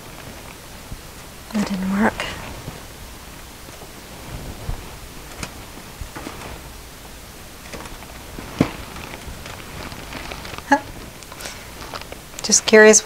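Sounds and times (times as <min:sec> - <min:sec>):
gloved hands rustling balloon: 0:00.0 - 0:13.0.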